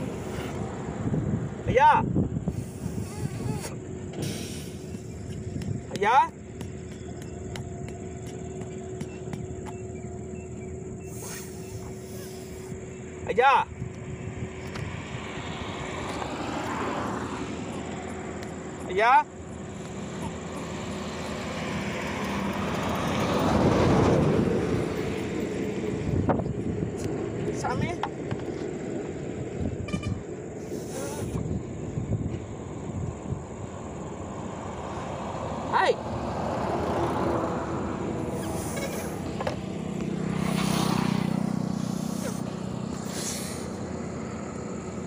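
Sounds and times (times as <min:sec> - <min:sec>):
outdoor rumble: 0:00.0 - 0:45.0
vehicle passing on road: 0:00.0 - 0:45.0.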